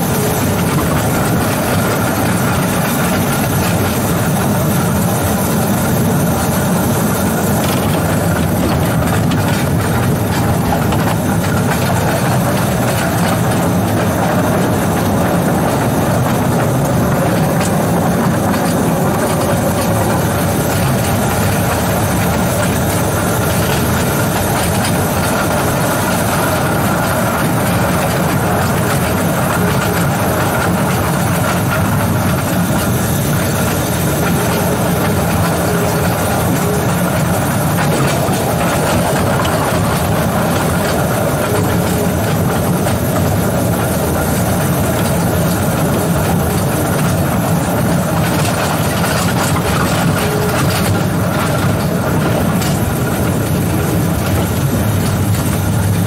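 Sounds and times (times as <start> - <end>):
locomotive wheels rumbling on rails: 0.0 - 56.0.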